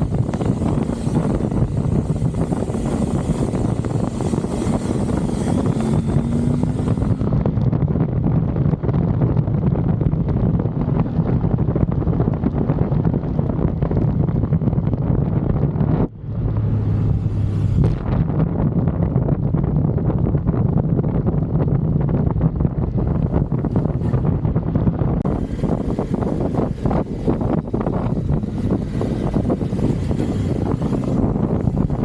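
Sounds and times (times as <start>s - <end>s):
motorcycle engine running: 0.0s - 32.0s
wind rushing over microphone: 0.0s - 32.0s.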